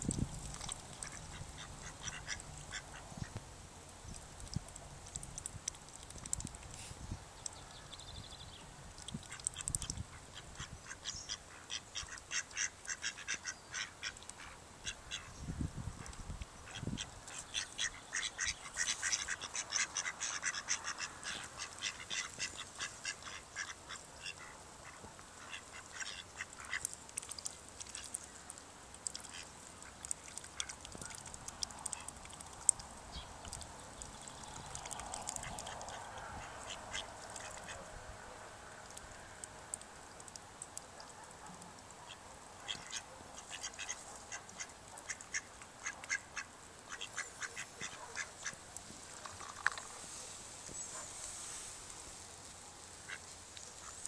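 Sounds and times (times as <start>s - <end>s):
ducks dabbling and clicking bills: 0.0s - 8.0s, 8.8s - 15.3s, 16.0s - 51.1s, 53.0s - 54.0s.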